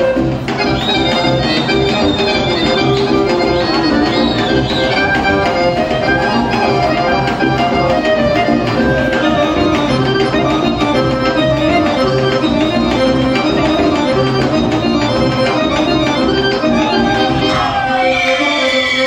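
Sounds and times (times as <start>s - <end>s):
accordion melody: 0.0s - 19.0s.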